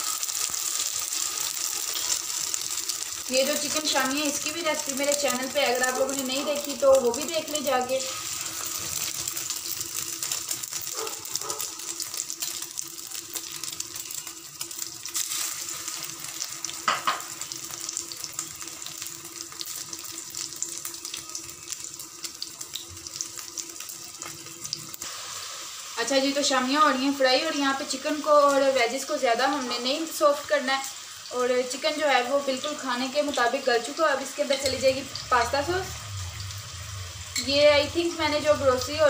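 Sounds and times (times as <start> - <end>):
hot oil sizzling and crackling: 0.0 - 39.0.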